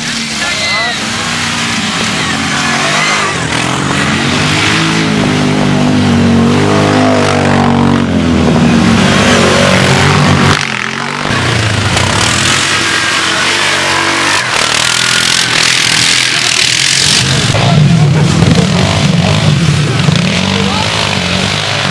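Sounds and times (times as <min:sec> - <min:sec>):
quad bike engines revving: 0:00.0 - 0:21.9.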